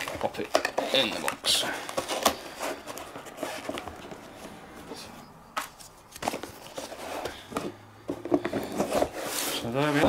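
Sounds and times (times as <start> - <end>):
cardboard rubbing: 0.0 - 4.6, 5.6 - 10.0.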